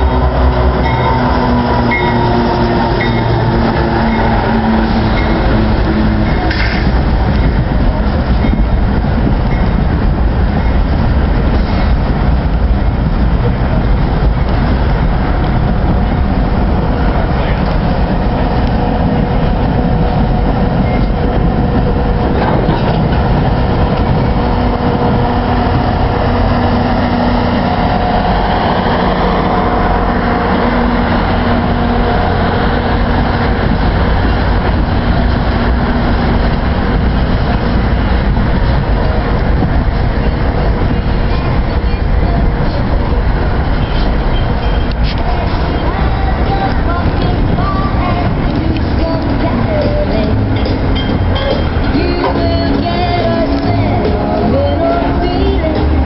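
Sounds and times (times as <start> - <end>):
train rolling along rails: 0.0 - 56.0.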